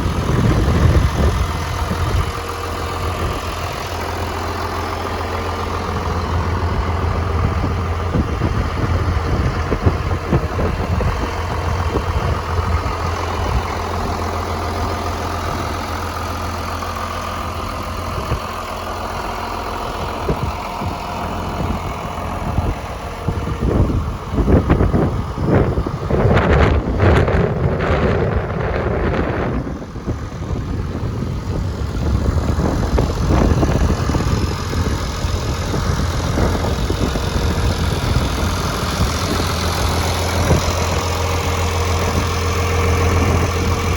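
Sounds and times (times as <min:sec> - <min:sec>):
tractor engine idling: 0:00.0 - 0:43.9
wind buffeting microphone: 0:00.0 - 0:43.9.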